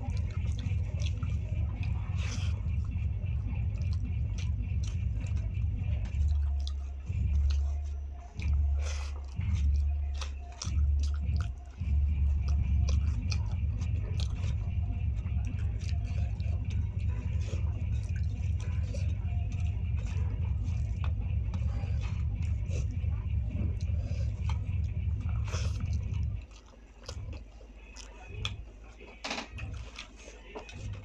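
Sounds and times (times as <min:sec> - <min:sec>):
person chewing with wet smacks: 0:00.0 - 0:31.0
steady low hum: 0:00.0 - 0:31.0.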